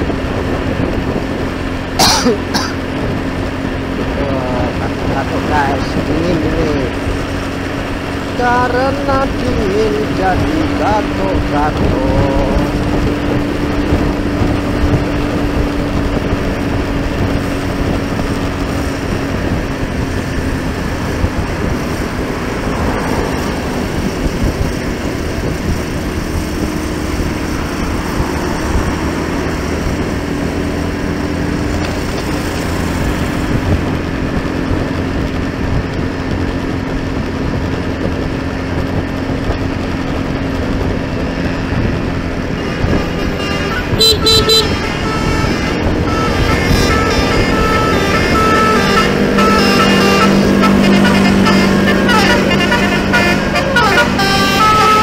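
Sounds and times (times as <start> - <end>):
vehicle engine droning: 0.0 - 55.0
wind and tyre rush: 0.0 - 55.0.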